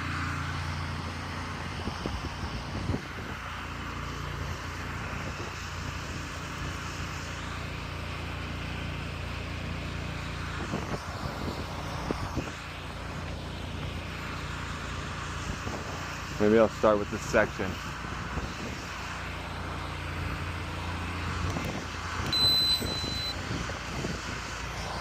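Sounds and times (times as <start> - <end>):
water spraying from wand: 0.0 - 22.4, 23.4 - 25.0
pressure washer engine running: 0.0 - 25.0.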